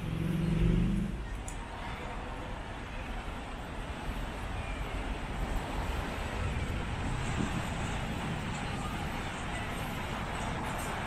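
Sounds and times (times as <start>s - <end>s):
street traffic passing: 0.0s - 11.0s.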